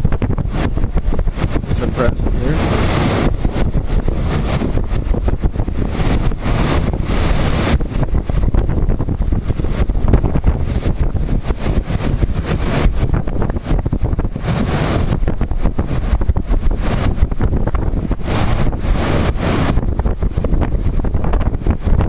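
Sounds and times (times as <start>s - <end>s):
storm wind buffeting microphone: 0.0s - 22.0s.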